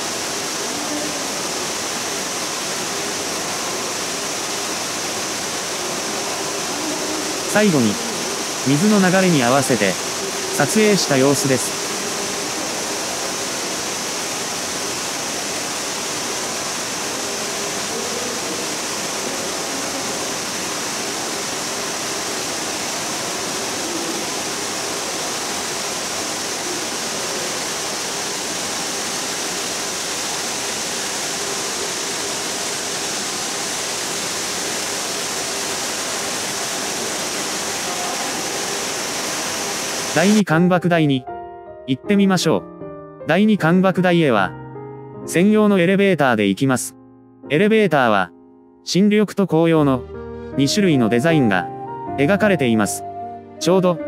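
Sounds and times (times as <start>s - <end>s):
waterfall rushing: 0.0s - 40.7s, 49.8s - 53.0s.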